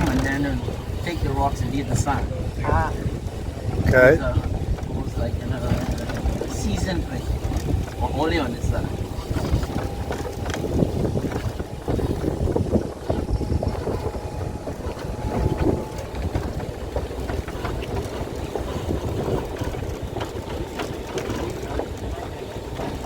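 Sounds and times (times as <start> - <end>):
tram rumbling: 0.0 - 23.0
wind buffeting microphone: 0.0 - 23.0.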